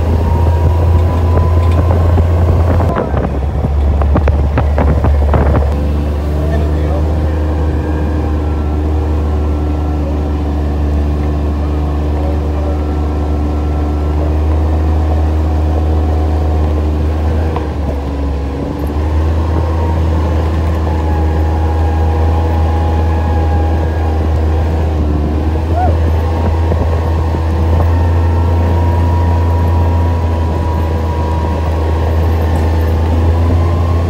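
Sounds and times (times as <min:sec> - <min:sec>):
quad bike engine droning: 0:00.0 - 0:34.0.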